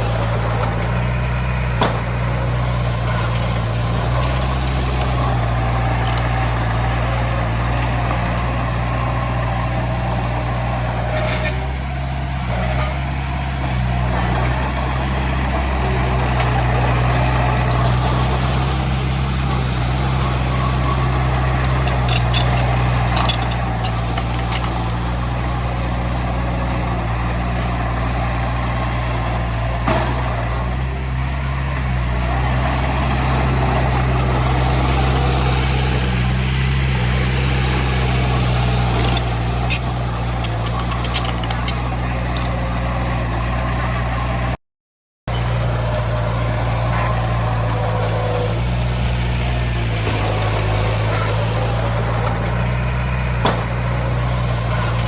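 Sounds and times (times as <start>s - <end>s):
heavy diesel engine running: 0.0s - 44.6s, 45.3s - 55.0s.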